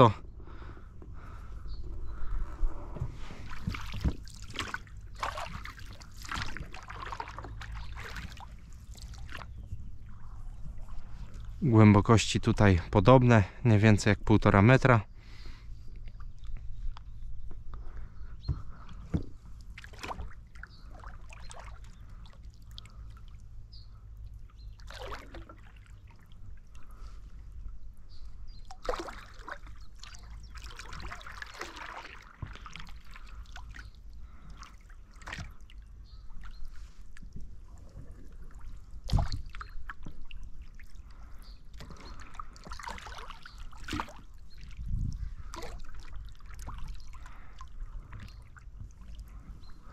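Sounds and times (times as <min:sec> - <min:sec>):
oars splashing in water: 0:02.2 - 0:11.6, 0:18.5 - 0:49.9.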